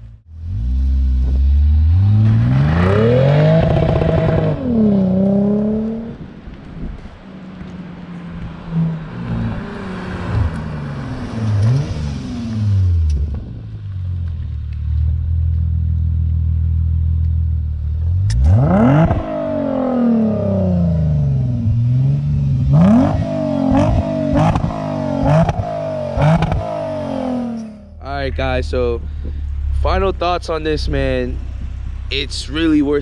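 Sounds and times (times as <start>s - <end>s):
car exhaust revving: 0.0s - 33.0s
exhaust cracks: 0.0s - 33.0s.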